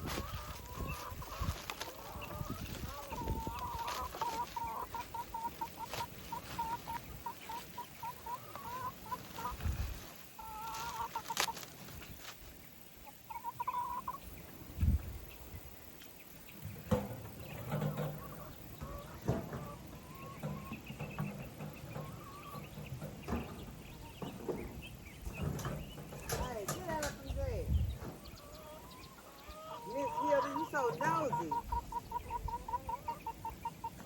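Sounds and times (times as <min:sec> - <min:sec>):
hen clucking: 0:00.0 - 0:12.3, 0:13.0 - 0:14.6, 0:16.5 - 0:34.0.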